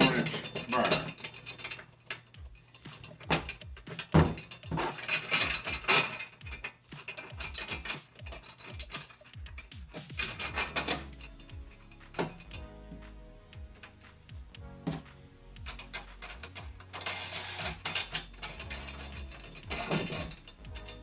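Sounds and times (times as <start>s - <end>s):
metal parts clinking: 0.0s - 13.1s, 13.7s - 21.0s.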